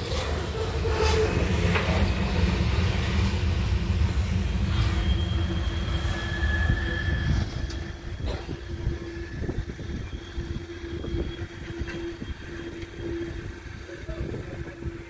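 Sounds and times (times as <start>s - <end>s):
train wheel whine: 0.0s - 15.0s.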